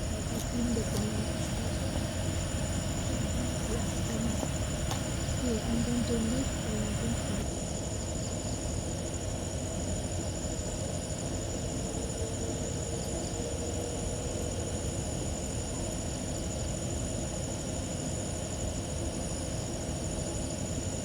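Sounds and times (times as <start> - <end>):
night insect chorus: 0.0 - 21.0.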